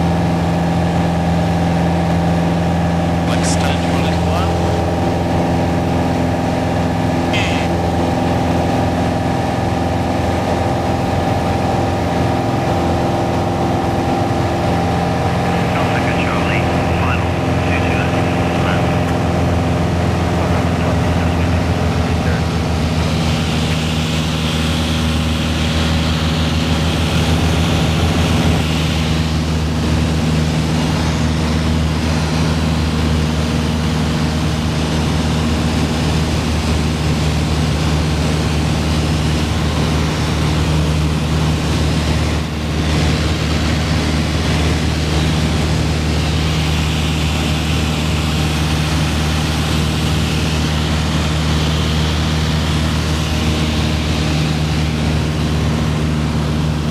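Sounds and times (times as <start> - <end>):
aircraft engine drone in cockpit: 0.0 - 56.9.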